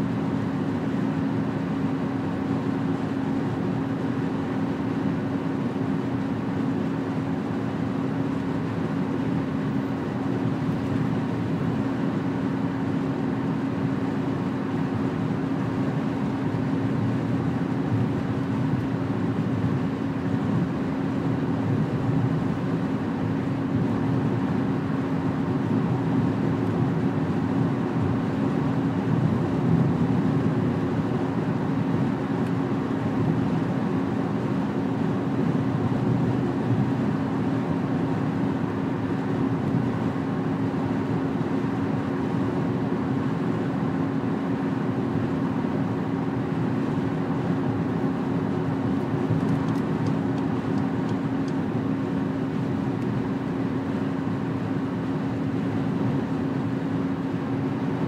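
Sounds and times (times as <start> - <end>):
car engine hum: 0.0 - 57.9.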